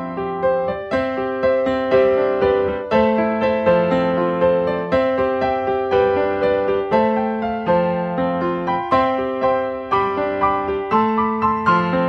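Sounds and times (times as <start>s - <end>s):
slow gentle piano melody: 0.0s - 12.0s.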